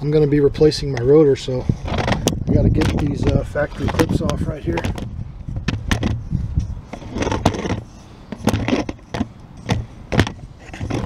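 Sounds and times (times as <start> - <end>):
low steady rumble: 0.0 - 11.0
handling knocks and metallic clinks: 1.9 - 11.0.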